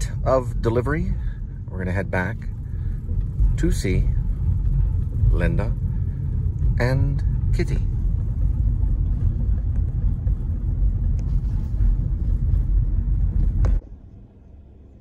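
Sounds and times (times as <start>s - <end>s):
faint low hum: 0.0s - 15.0s
road and engine rumble: 0.0s - 15.0s.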